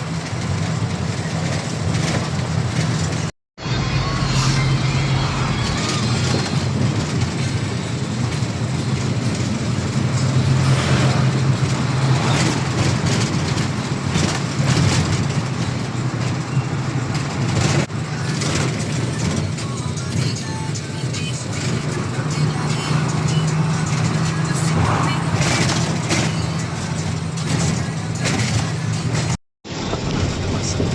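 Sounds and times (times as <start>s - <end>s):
road noise rushing: 0.0s - 30.9s
truck engine hum: 0.0s - 30.9s.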